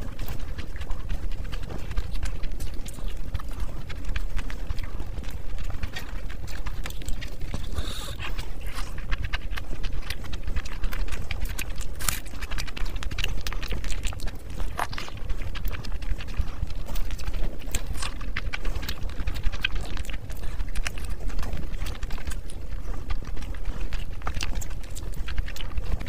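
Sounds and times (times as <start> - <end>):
fingers squishing through rice: 0.0 - 26.0
wet chewing and lip smacking: 0.0 - 26.0.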